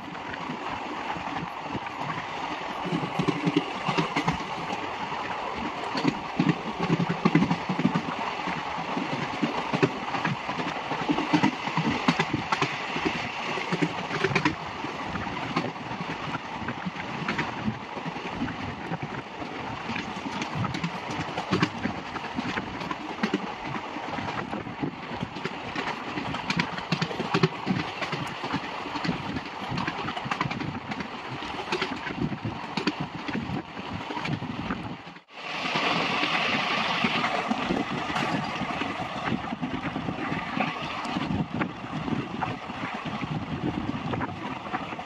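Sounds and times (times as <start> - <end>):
wind on microphone: 0.0 - 45.0
train wheels clattering on rails: 1.3 - 41.7.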